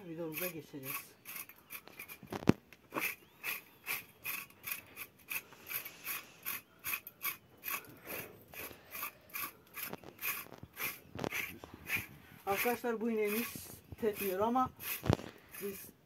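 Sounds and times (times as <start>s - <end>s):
curry comb scraping cow's coat: 0.0s - 16.0s.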